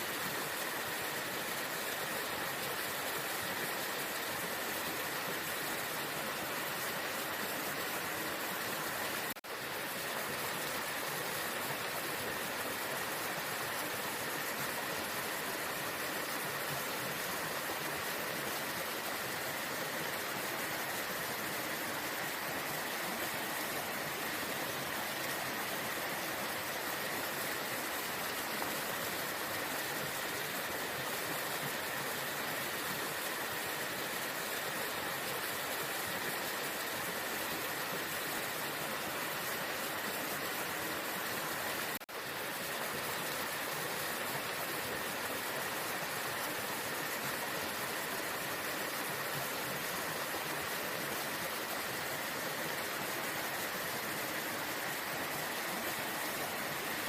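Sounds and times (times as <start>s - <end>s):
waterfall rushing water: 0.0s - 57.0s.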